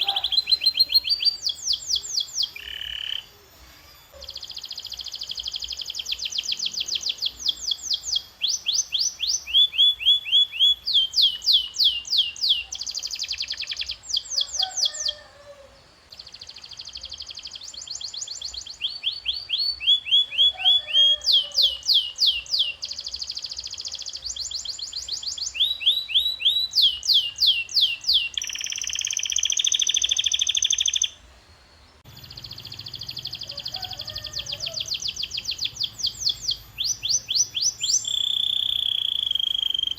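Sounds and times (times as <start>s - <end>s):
canary singing trills: 0.0s - 31.2s, 32.0s - 39.9s.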